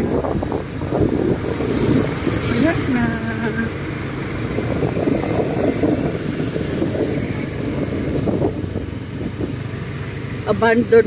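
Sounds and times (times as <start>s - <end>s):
motorcycle engine rumble: 0.0s - 11.0s
road and wind noise: 0.0s - 11.0s.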